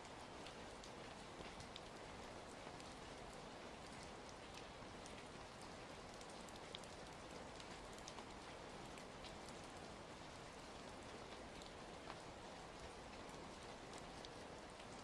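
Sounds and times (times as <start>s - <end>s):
quiet steady rain: 0.0s - 15.0s.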